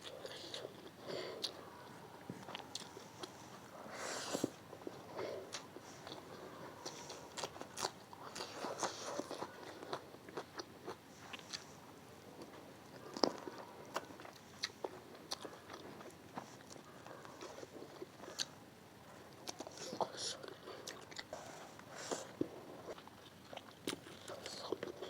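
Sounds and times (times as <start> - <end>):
chewing crunchy food: 0.0 - 25.0.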